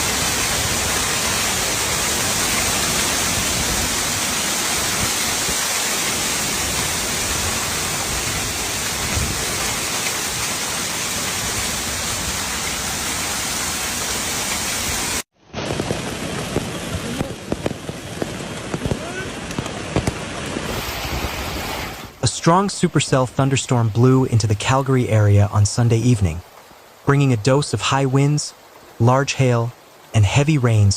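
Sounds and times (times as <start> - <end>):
rain impacts on a surface: 0.0 - 22.0, 24.3 - 30.9
heavy rain falling: 0.0 - 30.9.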